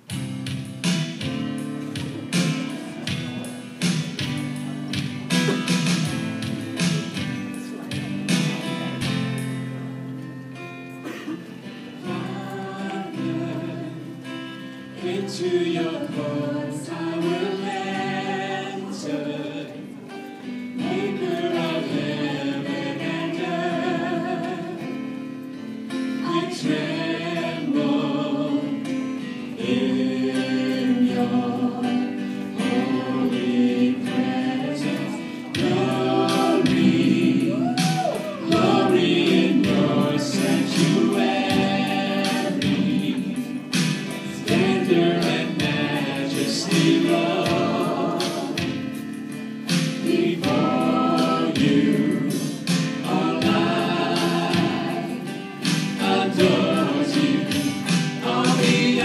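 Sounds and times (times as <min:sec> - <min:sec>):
instrumental accompaniment: 0:00.0 - 0:59.0
vocal group singing in harmony: 0:11.0 - 0:59.0.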